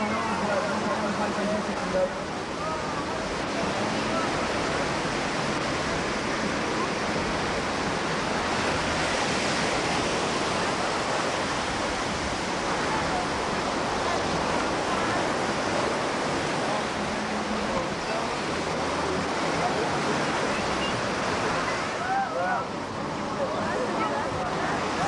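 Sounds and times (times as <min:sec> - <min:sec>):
ocean surf breaking: 0:00.0 - 0:25.0.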